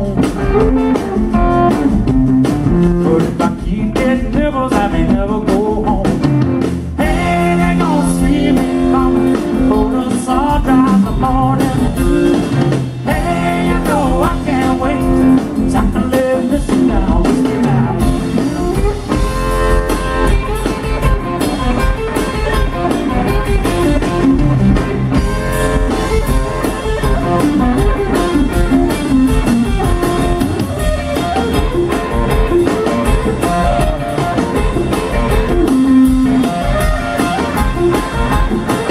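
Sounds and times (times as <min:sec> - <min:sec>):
live blues band playing: 0:00.0 - 0:38.9.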